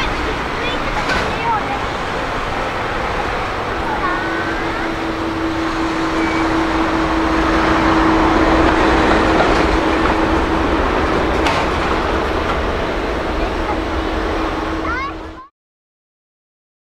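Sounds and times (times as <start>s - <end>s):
jet engines rushing: 0.0s - 15.5s.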